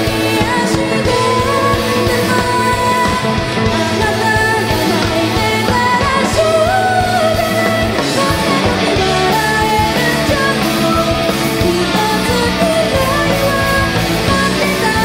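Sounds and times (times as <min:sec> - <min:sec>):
electric guitar: 0:00.0 - 0:15.0
rock band playing live: 0:00.0 - 0:15.0
woman singing: 0:00.0 - 0:15.0.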